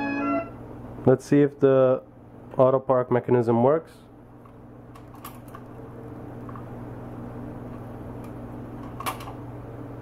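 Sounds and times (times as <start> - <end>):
amplifier hum: 0.0 - 3.0, 4.0 - 10.0.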